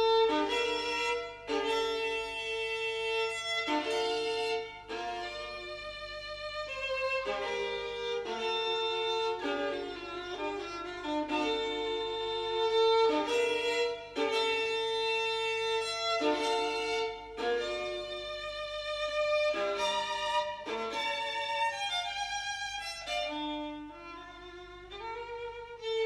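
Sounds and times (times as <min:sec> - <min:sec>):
slow violin notes: 0:00.0 - 0:26.0.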